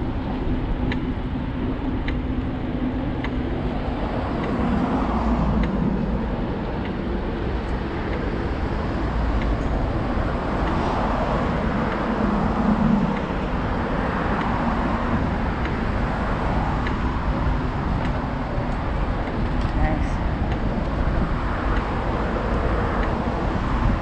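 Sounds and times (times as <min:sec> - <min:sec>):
road traffic noise: 0:00.0 - 0:24.0
wind rumble on microphone: 0:00.0 - 0:24.0
car passing: 0:02.7 - 0:24.0.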